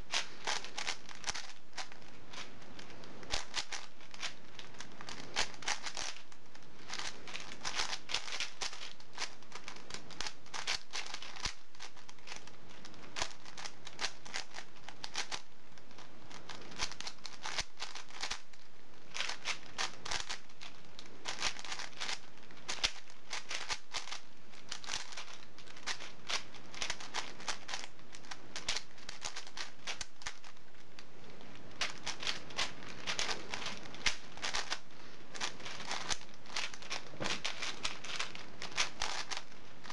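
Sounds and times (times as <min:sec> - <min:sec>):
speed cubes clicking: 0:00.0 - 0:39.9.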